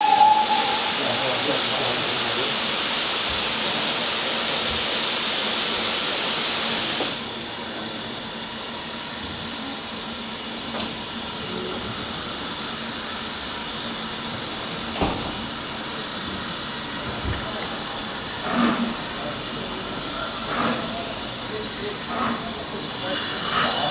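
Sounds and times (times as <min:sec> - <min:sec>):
steam locomotive hissing steam: 0:00.0 - 0:23.9.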